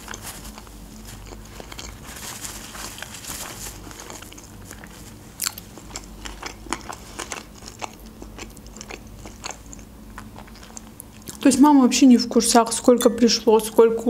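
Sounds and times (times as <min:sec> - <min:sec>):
person chewing: 0:00.0 - 0:11.5.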